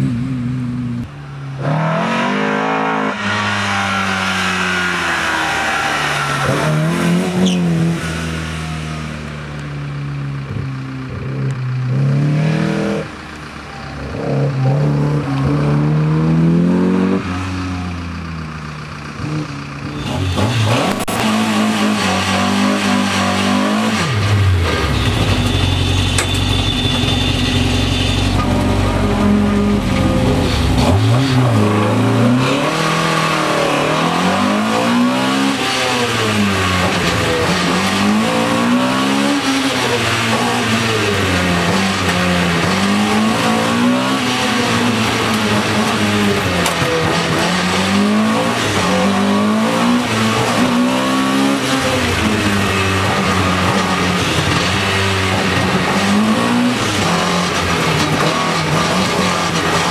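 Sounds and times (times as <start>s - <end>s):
car engine revving hard: 0.0s - 9.6s, 10.4s - 18.4s, 19.1s - 59.9s
race car engine from cockpit: 0.0s - 59.9s.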